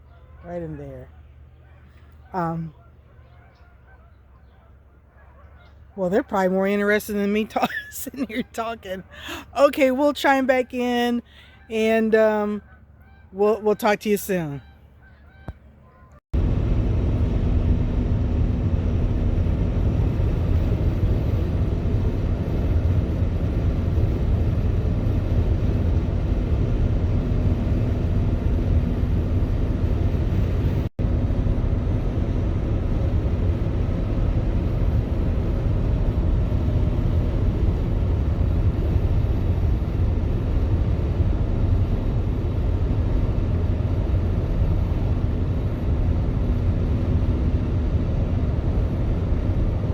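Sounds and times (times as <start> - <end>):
vehicle road and engine rumble: 0.0 - 49.9.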